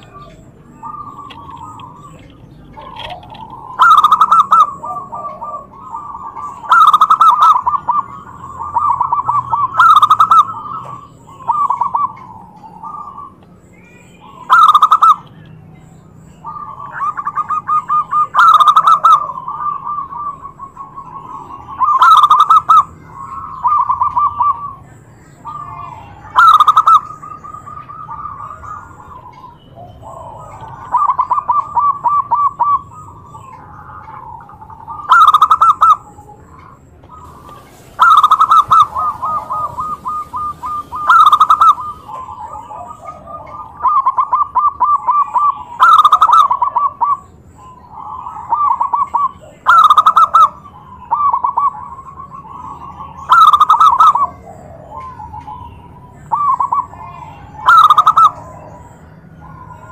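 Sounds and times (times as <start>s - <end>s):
dove cooing trills: 0.0s - 59.9s.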